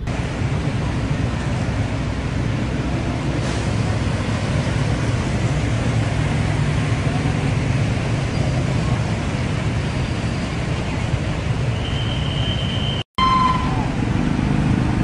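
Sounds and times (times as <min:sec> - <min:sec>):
tyres washing through water: 0:00.0 - 0:12.4
engine hum: 0:00.0 - 0:15.0.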